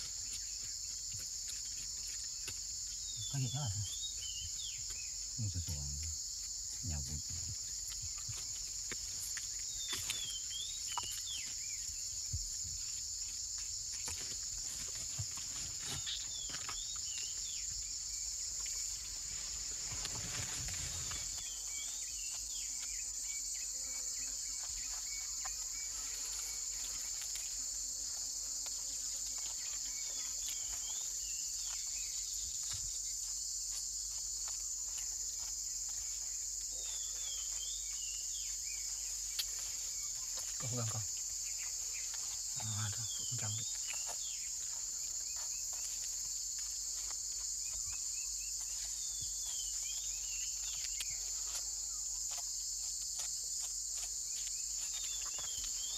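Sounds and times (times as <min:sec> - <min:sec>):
insect chorus: 0:00.0 - 0:55.9.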